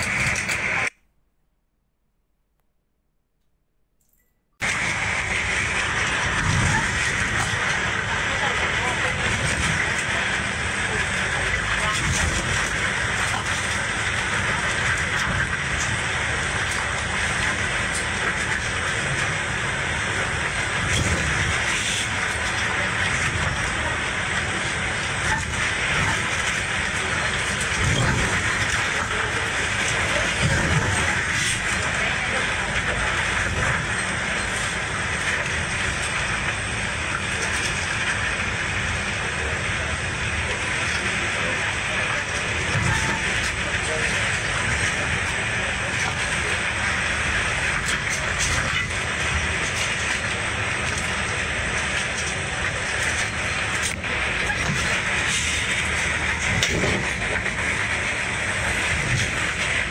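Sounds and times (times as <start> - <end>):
ferry engine drone: 0.0 - 1.0, 4.6 - 59.9
water against hull: 4.6 - 59.9.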